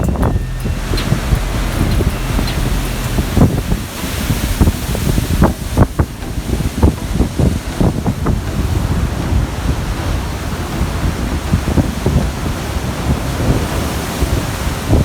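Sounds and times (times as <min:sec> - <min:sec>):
sea rushing: 0:00.0 - 0:15.0
wind buffeting microphone: 0:00.0 - 0:15.0.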